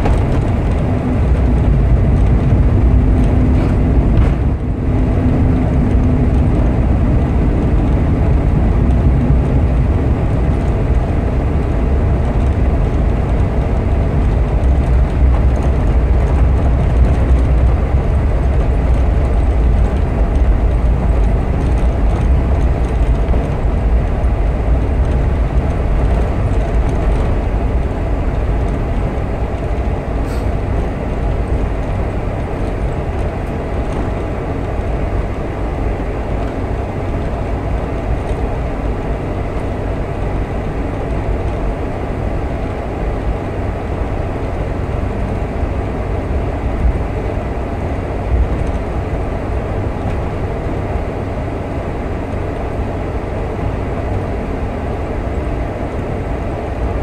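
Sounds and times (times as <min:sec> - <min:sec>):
aircraft engines rumbling: 0:00.0 - 0:57.0
wheels running on runway: 0:00.0 - 0:57.0.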